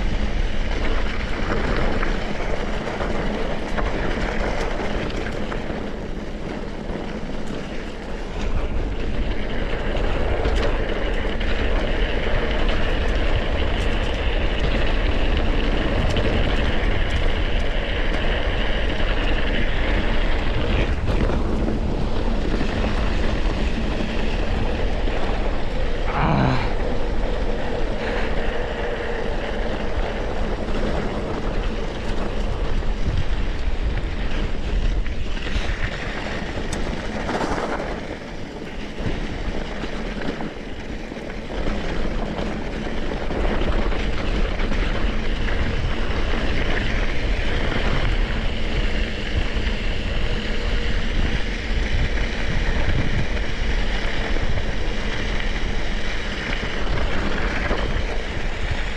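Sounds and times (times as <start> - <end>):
mountain bike tyre and frame noise: 0.0 - 58.9
wind buffeting microphone: 0.0 - 58.9.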